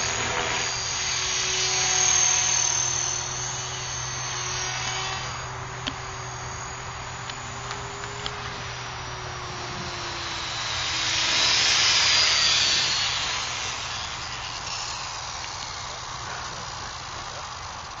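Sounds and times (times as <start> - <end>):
model helicopter rotor swishing: 0.0 - 18.0.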